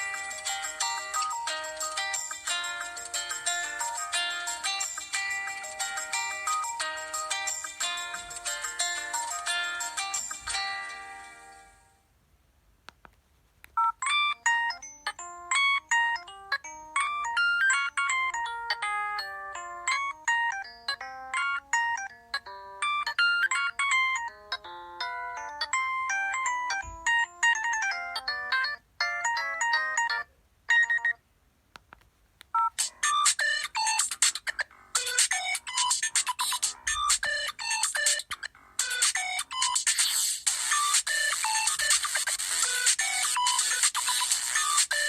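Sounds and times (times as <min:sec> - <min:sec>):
phone ringtone melody: 0:00.0 - 0:11.9, 0:13.8 - 0:31.2, 0:32.6 - 0:45.0.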